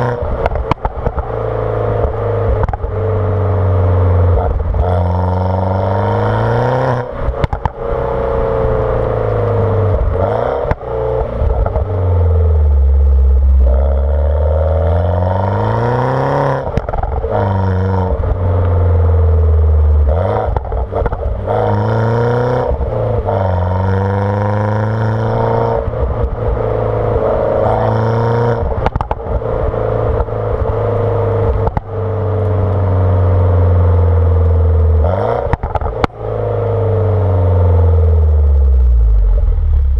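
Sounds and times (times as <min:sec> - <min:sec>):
exhaust pops and crackles: 0:00.0 - 0:03.4, 0:07.0 - 0:07.9, 0:08.9 - 0:36.6, 0:37.6 - 0:39.9
car engine revving: 0:00.0 - 0:39.9.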